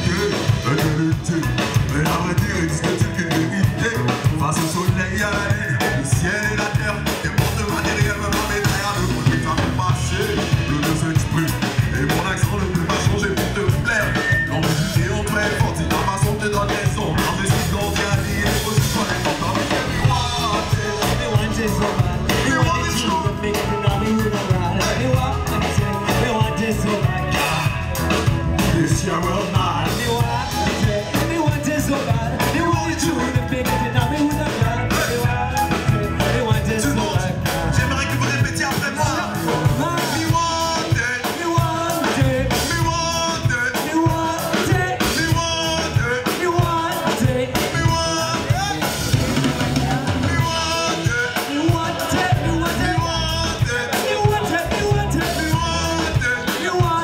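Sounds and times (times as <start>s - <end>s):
live band playing: 0.0s - 57.0s
man singing through pa: 0.0s - 57.0s.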